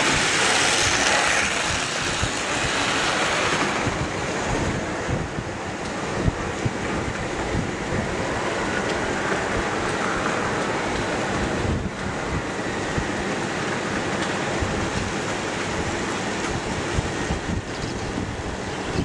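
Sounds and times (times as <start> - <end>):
model train rumbling on rails: 0.0 - 19.0.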